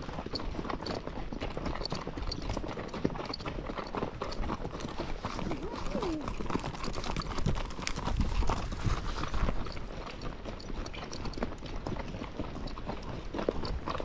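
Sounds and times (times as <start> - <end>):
horse hoofbeats on a trail: 0.0 - 14.0.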